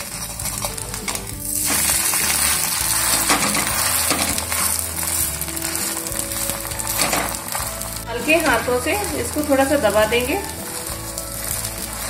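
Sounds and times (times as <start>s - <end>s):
food sizzling in oil: 0.0s - 12.0s
steel spatula on griddle: 0.0s - 12.0s.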